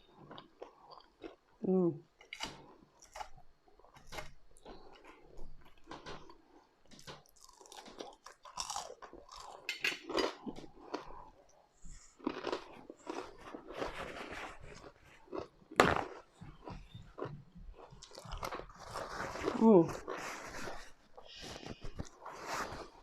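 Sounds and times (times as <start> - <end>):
chewing and crunching fries: 0.0 - 23.0.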